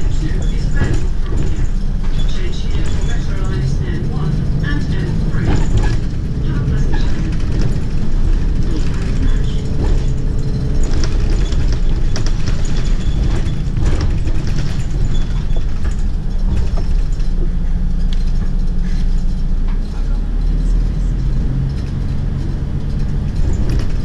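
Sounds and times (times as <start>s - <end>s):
interior panels rattling: 0.0s - 19.9s, 21.6s - 24.0s
bus engine rumble: 0.0s - 24.0s.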